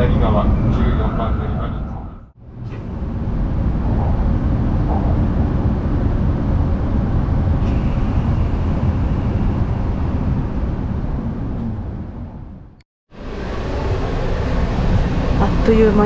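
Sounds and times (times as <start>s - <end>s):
train cabin rumble: 0.0s - 16.0s.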